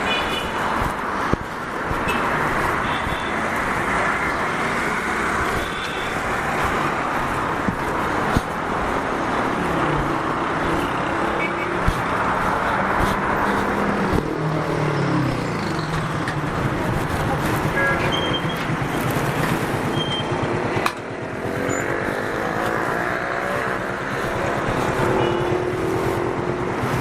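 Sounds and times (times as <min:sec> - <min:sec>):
motor vehicles passing: 0:00.0 - 0:27.0.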